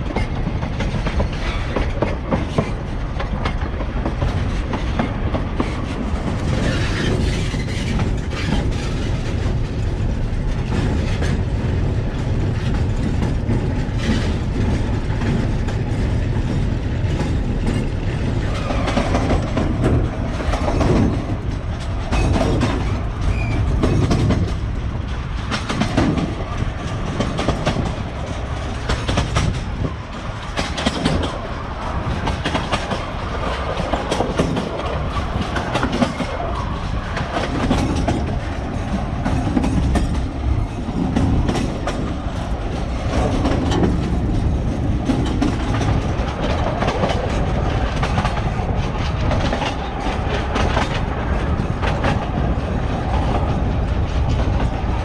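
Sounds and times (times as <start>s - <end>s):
clickety-clack of rail joints: 0.0s - 55.0s
train wheels rumbling: 0.0s - 55.0s.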